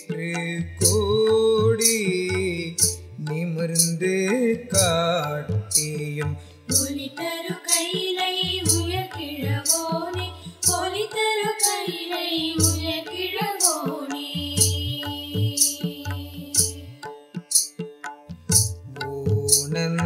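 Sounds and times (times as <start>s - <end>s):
person singing devotional song: 0.0s - 17.2s, 18.7s - 20.0s
percussion strokes: 0.0s - 20.0s.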